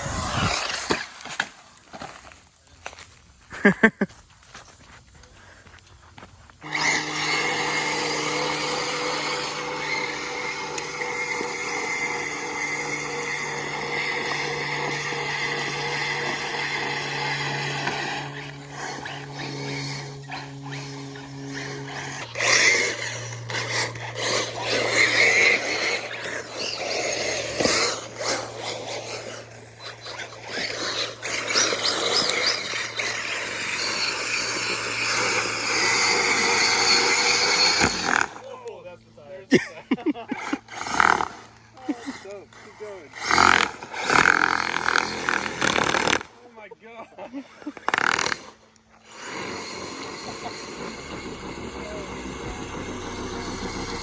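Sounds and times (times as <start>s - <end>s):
small motor whining: 0.0s - 1.9s, 6.6s - 39.1s, 40.0s - 46.6s, 47.2s - 54.0s
tyres rasping on dirt: 0.0s - 38.5s, 39.6s - 46.5s, 47.2s - 54.0s.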